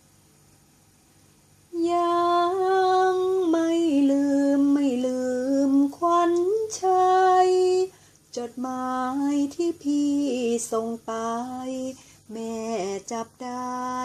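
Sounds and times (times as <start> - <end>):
faint hiss: 0.0 - 14.0
woman singing slow melody: 1.7 - 14.0.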